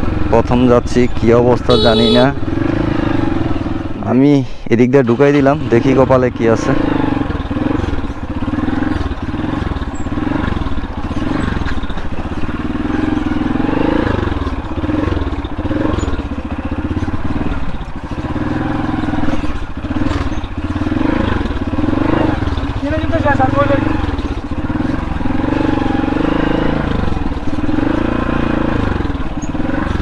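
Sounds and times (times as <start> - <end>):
motorcycle engine revving: 0.0 - 4.2, 5.0 - 30.0.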